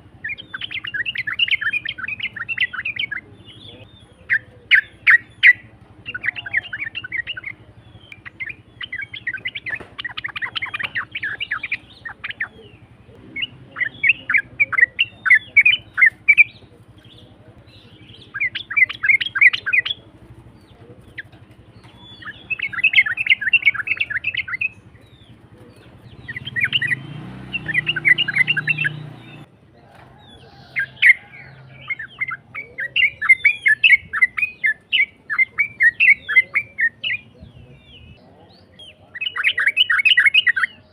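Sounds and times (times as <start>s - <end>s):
low rumbling noise: 0.0s - 39.0s
bird singing chattering phrases: 0.0s - 40.9s.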